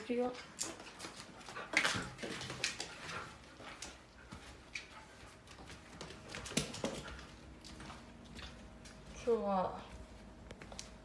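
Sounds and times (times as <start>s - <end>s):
footsteps and shuffling on floor: 0.0s - 11.0s.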